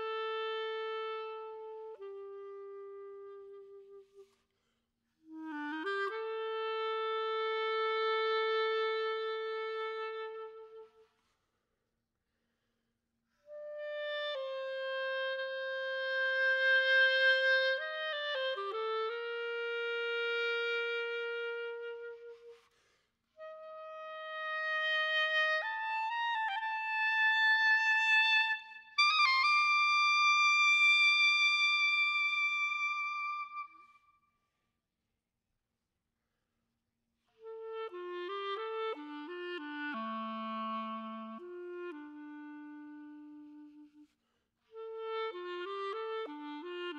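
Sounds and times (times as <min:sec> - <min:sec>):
solo clarinet melody: 0:00.0 - 0:04.5, 0:05.2 - 0:11.4, 0:13.4 - 0:34.3, 0:37.3 - 0:46.9.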